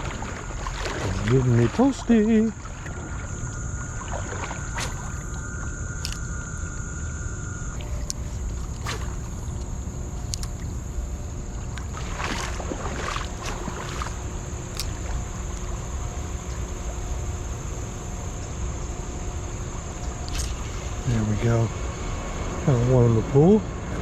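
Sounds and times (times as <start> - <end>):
creek water splashing: 0.0 - 17.4, 20.0 - 22.7
high-pitched whine: 0.0 - 24.0
steady low rumble: 0.0 - 24.0.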